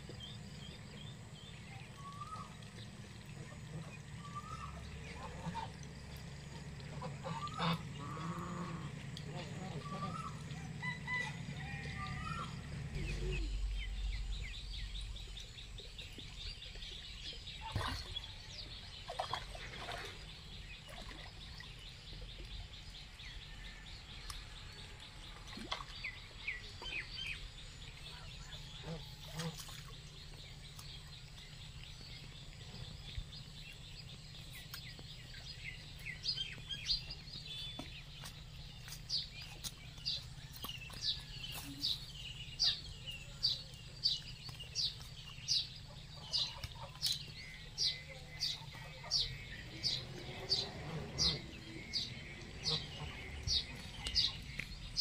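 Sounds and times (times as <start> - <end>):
birds chirping: 0.0 - 23.8, 24.8 - 55.0
low background hum: 0.0 - 55.0.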